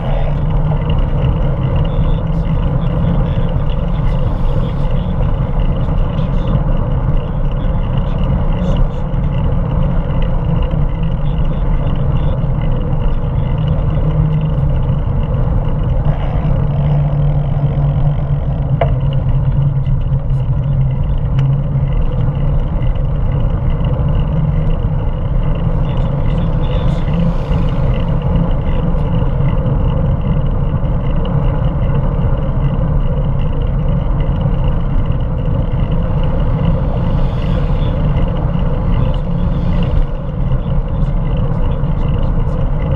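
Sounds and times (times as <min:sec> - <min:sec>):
road rumble: 0:00.0 - 0:42.9.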